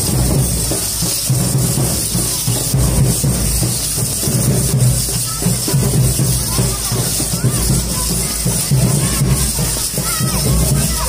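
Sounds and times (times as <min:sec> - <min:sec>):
music with repeating drum beat: 0:00.0 - 0:11.0.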